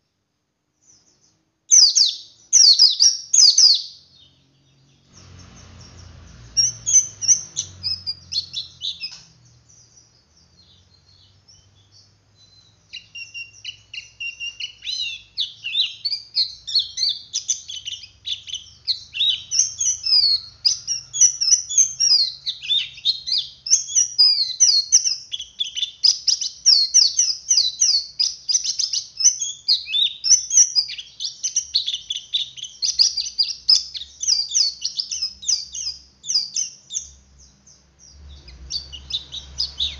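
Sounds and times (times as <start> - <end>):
bird twittering song: 0.8 - 39.9.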